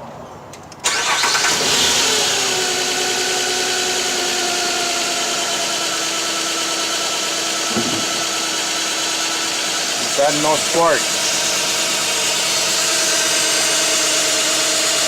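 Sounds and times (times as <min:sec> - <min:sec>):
car engine starting and idling: 0:00.7 - 0:15.0.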